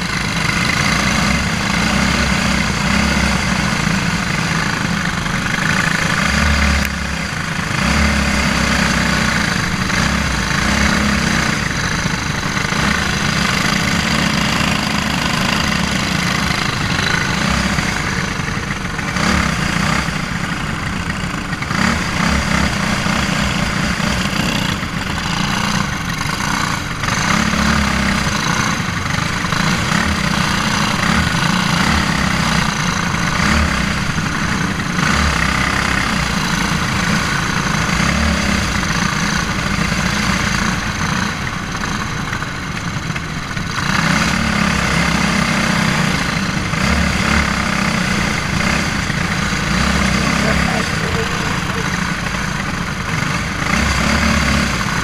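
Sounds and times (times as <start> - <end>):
kart engine running hard: 0.0 - 55.0.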